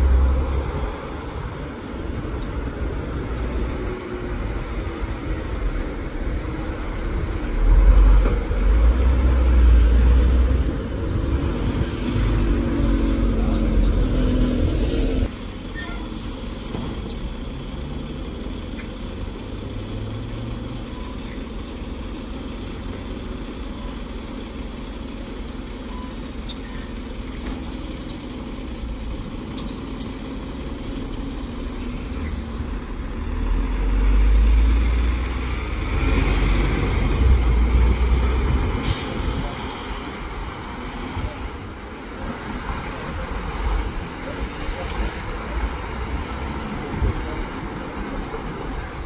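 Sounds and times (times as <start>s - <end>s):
diesel bus engine: 0.0s - 49.0s.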